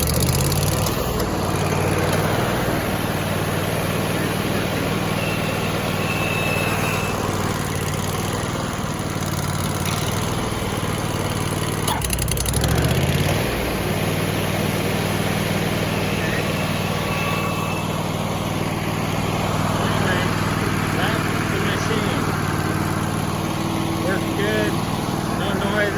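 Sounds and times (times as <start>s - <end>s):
stump grinder engine running: 0.0s - 25.9s.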